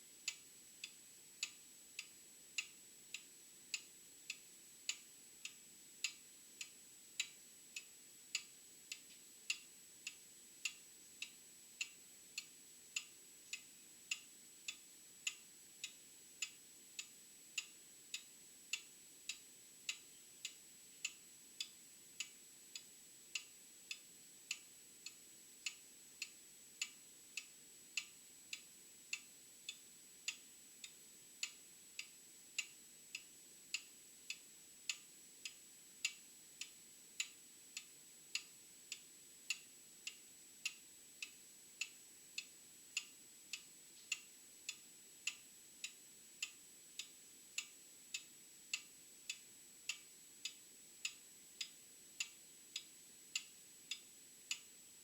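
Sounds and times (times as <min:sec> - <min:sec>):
mechanical clock ticking: 0:00.2 - 0:54.7.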